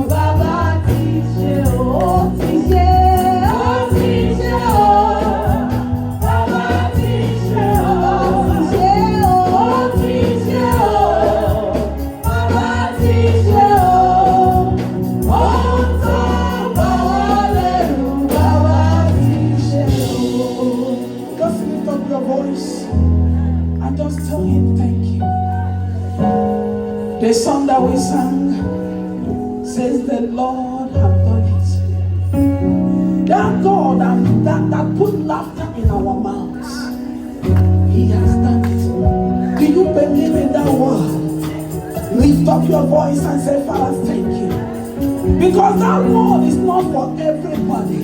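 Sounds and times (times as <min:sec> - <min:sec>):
congregation and choir singing: 0:00.0 - 0:23.9, 0:32.6 - 0:48.0
band with steady bass line: 0:00.0 - 0:48.0.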